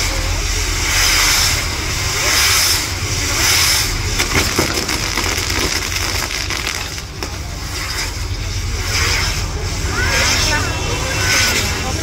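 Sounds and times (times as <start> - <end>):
fireworks crackling and hissing: 0.0 - 12.0.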